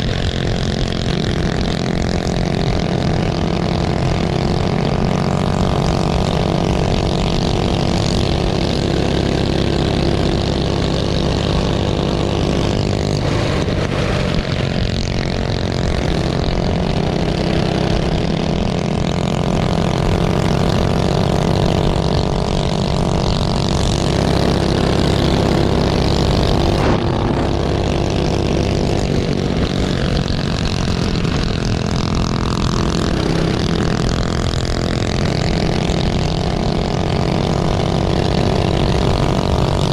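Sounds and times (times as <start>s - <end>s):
minibike engine running hard: 0.0s - 39.9s.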